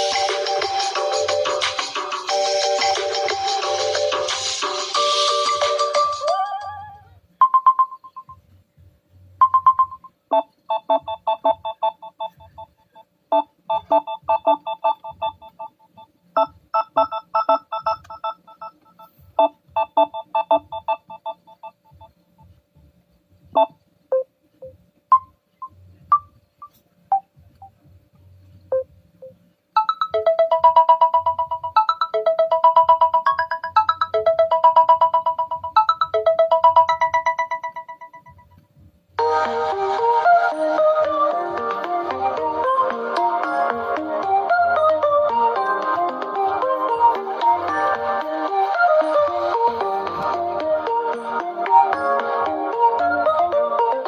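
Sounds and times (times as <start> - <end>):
electronic ringtone melodies: 0.0 - 8.4, 9.4 - 22.2, 28.7 - 38.6, 39.2 - 54.0.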